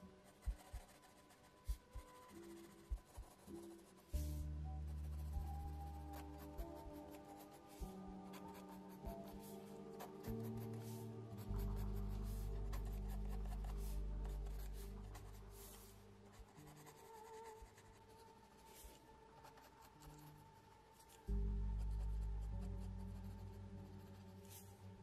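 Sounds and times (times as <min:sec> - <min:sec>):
pencil scratching on paper: 0:00.0 - 0:24.8.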